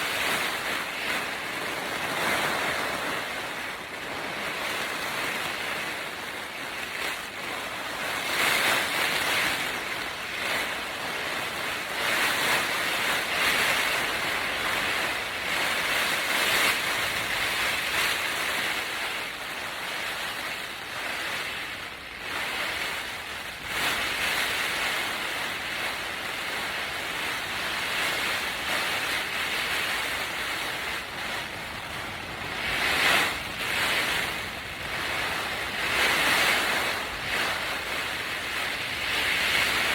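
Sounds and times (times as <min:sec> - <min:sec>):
gusty wind buffeting a tent: 0:00.0 - 0:39.9.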